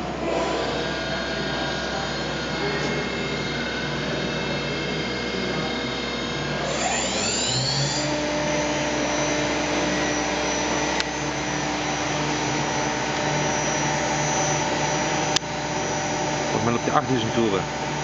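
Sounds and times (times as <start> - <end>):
machine noise: 0.0 - 18.0
machine spindle whining: 0.0 - 18.0.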